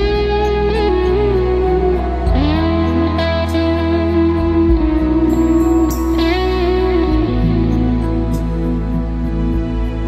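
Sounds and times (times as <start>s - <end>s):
gentle instrumental guitar music: 0.0s - 10.0s.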